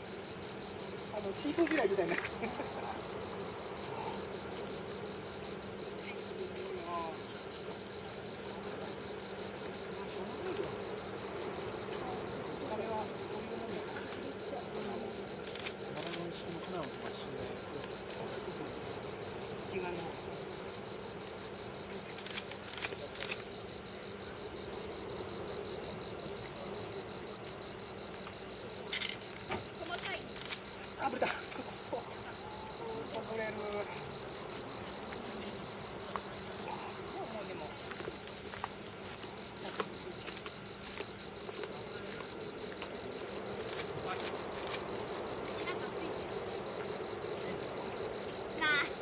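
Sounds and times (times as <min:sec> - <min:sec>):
insect chirping in pulsed trill: 0:00.0 - 0:49.0.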